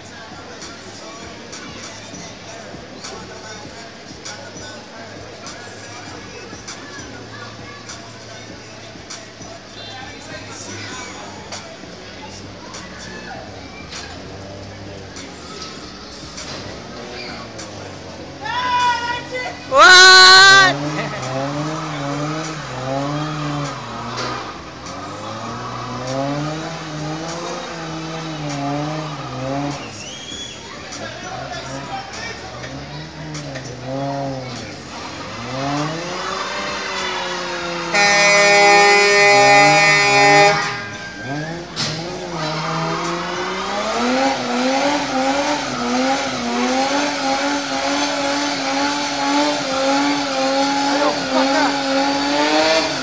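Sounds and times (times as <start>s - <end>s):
truck engine revving hard: 0.0s - 53.0s
tyres spinning: 0.0s - 53.0s.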